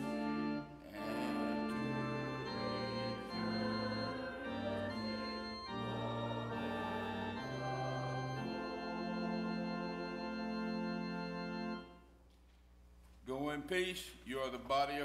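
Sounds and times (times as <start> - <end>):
organ playing hymn chords: 0.0 - 12.2.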